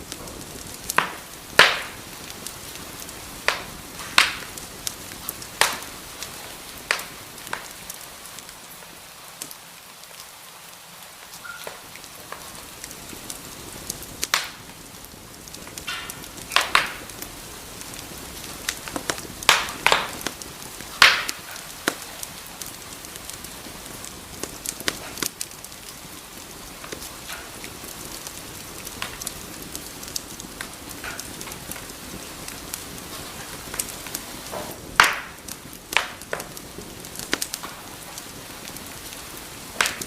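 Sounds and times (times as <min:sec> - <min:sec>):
fire crackling and popping: 0:00.0 - 0:40.0
fire hissing: 0:00.0 - 0:40.0.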